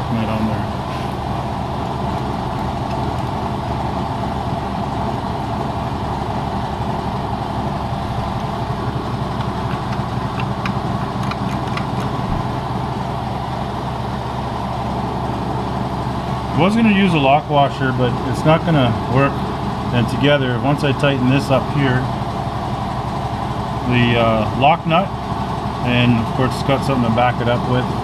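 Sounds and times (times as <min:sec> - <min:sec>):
air compressor running: 0:00.0 - 0:28.0.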